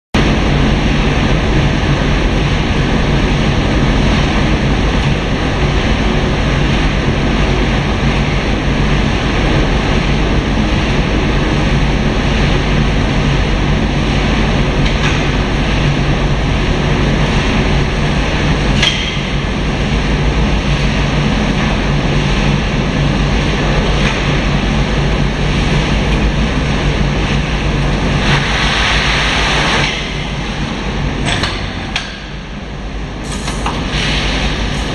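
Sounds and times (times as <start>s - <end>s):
low hum: 0.2s - 34.9s
machinery mechanical drone: 0.2s - 34.9s.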